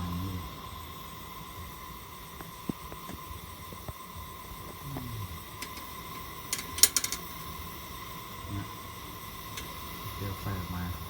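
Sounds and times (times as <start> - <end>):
pressure lantern hissing: 0.0 - 11.0.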